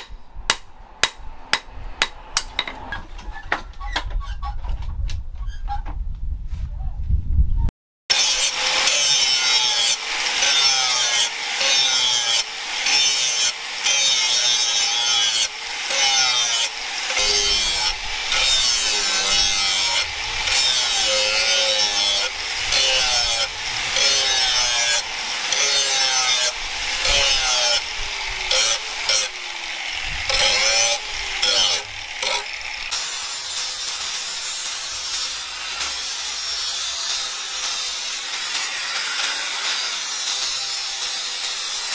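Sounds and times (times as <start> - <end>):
angle grinder grinding steel: 8.1 - 41.9
angle grinder sanding: 8.1 - 41.9.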